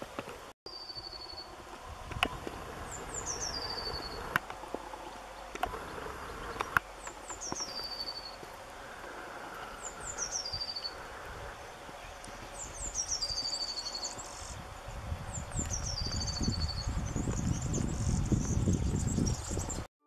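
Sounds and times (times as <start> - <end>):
songbird singing: 0.7 - 19.9.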